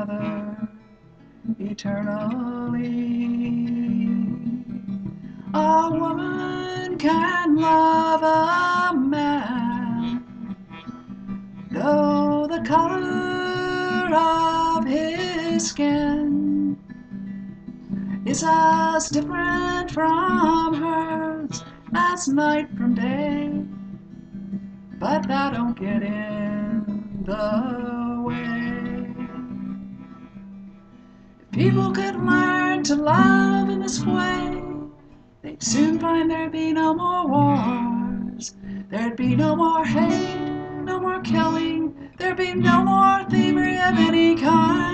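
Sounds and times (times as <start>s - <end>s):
woman singing: 0.0s - 0.8s, 1.5s - 10.6s, 11.7s - 16.8s, 18.1s - 23.8s, 25.0s - 29.9s, 31.5s - 44.9s
acoustic guitar strumming: 0.0s - 44.9s.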